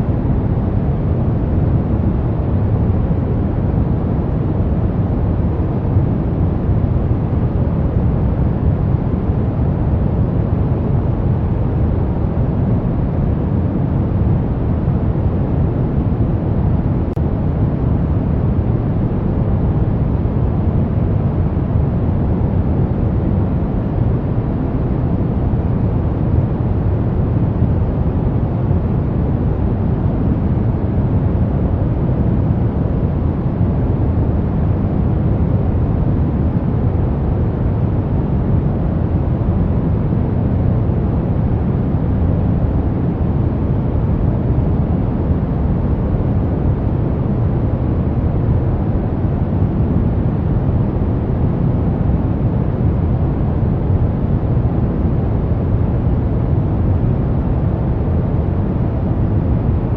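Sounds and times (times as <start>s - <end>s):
brown noise rumbling hiss: 0.0s - 59.9s.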